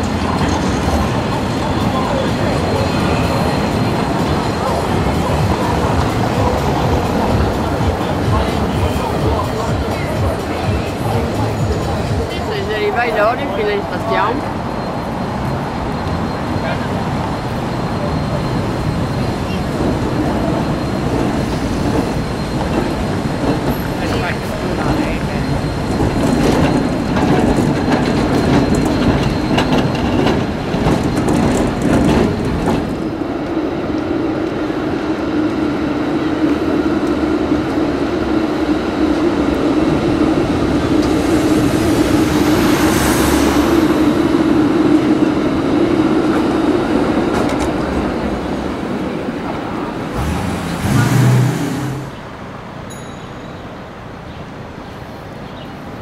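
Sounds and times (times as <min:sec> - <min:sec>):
street noise: 0:00.0 - 0:56.0
tram running hum: 0:00.0 - 0:56.0
tram wheels clattering over rails: 0:00.0 - 0:56.0.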